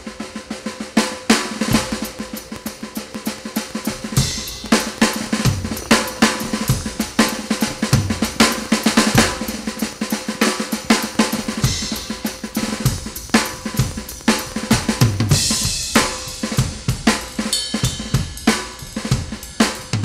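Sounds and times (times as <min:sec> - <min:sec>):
cymbals: 0:00.0 - 0:20.0
snare drum: 0:00.0 - 0:20.0
kick drum: 0:01.7 - 0:10.1, 0:10.8 - 0:20.0.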